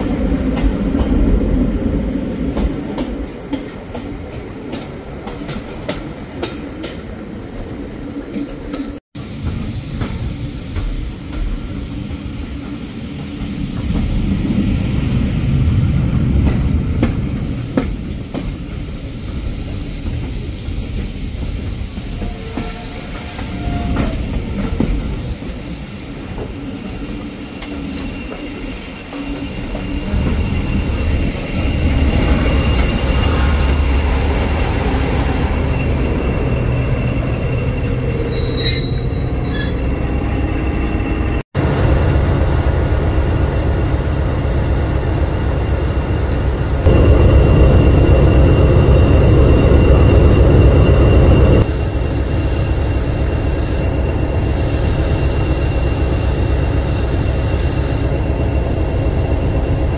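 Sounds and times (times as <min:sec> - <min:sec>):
diesel locomotive engine rumbling: 0:00.0 - 0:59.9.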